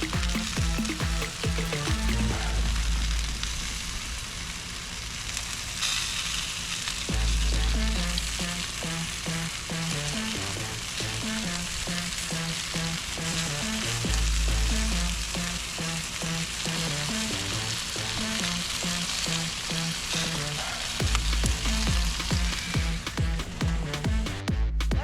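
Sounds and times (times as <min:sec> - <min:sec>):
background music with deep bass: 0:00.0 - 0:04.1, 0:07.1 - 0:25.0.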